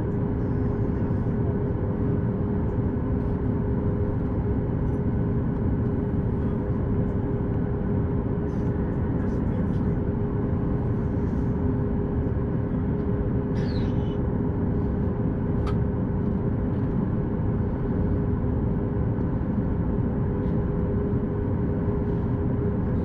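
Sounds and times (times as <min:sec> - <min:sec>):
aircraft cabin rumble: 0:00.0 - 0:23.0
jet engines idling hum: 0:00.0 - 0:23.0.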